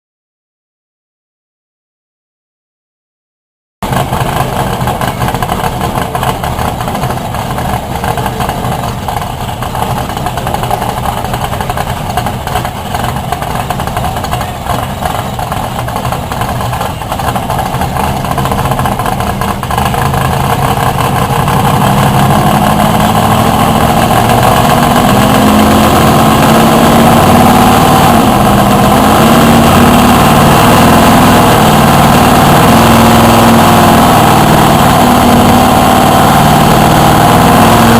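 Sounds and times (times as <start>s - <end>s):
engine revving on a dyno: 3.8s - 37.9s.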